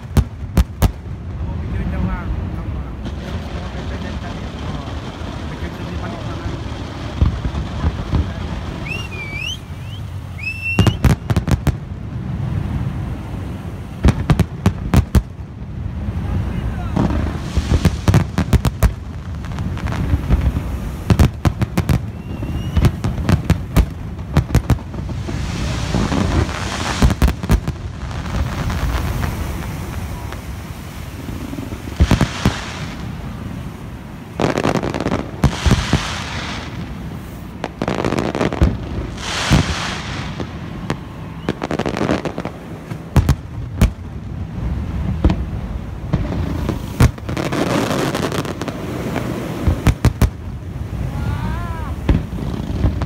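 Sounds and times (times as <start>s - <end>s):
fireworks bangs: 0.0s - 53.0s
fireworks hissing: 0.0s - 53.0s.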